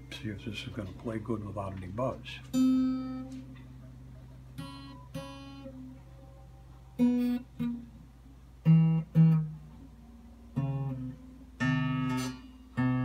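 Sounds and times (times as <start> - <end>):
acoustic guitar notes plucked: 0.0 - 13.0.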